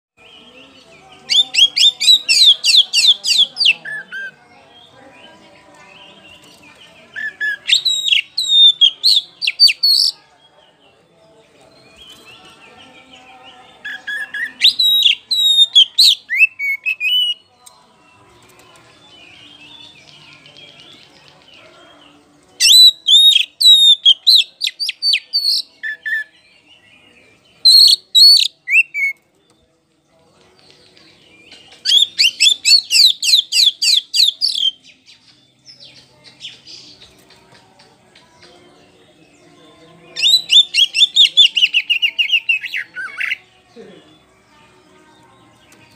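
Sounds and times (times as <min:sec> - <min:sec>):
bird singing whistled notes: 0:00.2 - 0:10.6, 0:11.7 - 0:21.6, 0:22.5 - 0:30.0, 0:30.6 - 0:37.3, 0:40.0 - 0:43.5.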